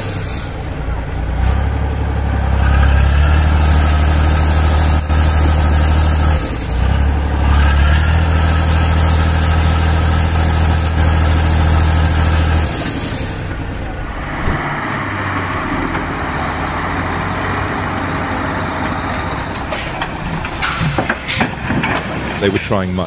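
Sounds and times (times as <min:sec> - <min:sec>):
truck engine running hard: 0:00.0 - 0:23.0.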